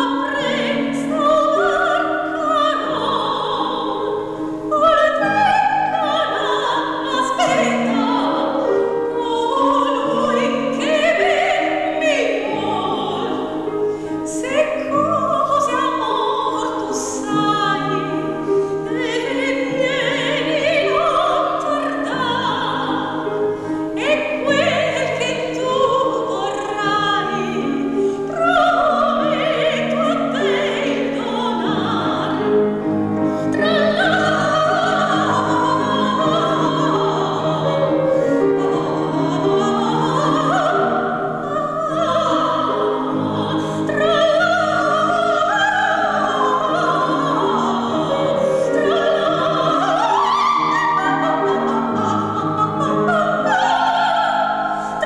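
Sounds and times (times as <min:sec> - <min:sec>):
grand piano: 0:00.0 - 0:55.0
soprano singing opera: 0:00.0 - 0:55.0.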